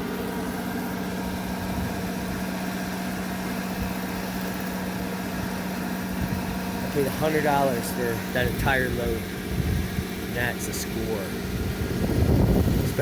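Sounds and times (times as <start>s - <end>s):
planer machine humming: 0.0s - 13.0s.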